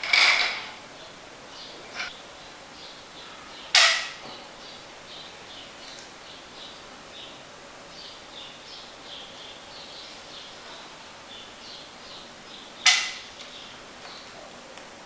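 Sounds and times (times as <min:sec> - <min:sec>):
small bird chirping: 0:01.0 - 0:14.4.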